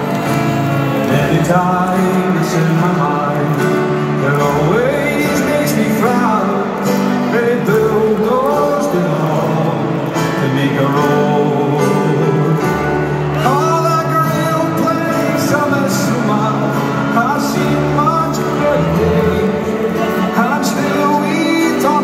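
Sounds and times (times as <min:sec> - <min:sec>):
man singing folk song: 0:00.0 - 0:22.0
strummed acoustic guitar: 0:00.0 - 0:22.0.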